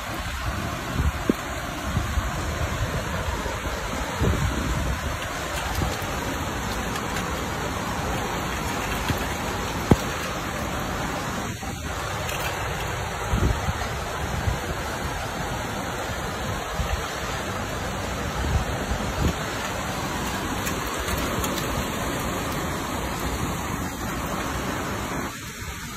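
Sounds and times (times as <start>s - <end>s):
rain falling: 0.0s - 25.9s
wind buffeting microphone: 0.0s - 25.9s.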